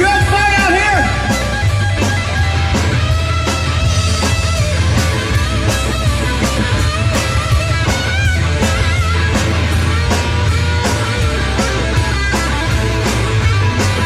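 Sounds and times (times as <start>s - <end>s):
bass guitar: 0.0s - 14.0s
electric guitar with bent notes: 0.0s - 14.0s
steady drum beat: 0.0s - 14.0s.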